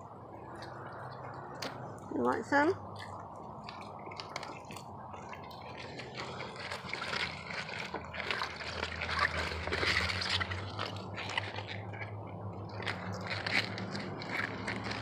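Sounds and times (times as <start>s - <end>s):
goats chewing wet greens: 0.0s - 15.0s.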